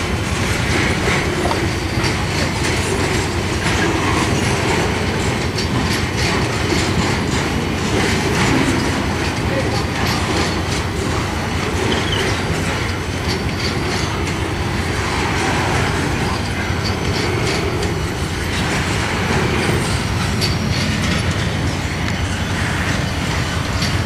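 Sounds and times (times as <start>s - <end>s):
freight train rumbling past: 0.0s - 24.0s
wheels clicking over rail joints: 0.0s - 24.0s.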